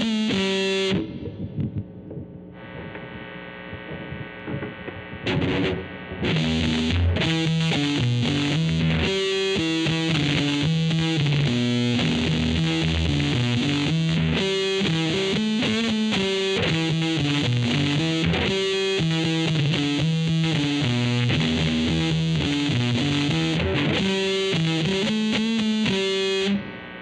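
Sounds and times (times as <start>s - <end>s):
distorted electric guitar riff: 0.0s - 27.0s.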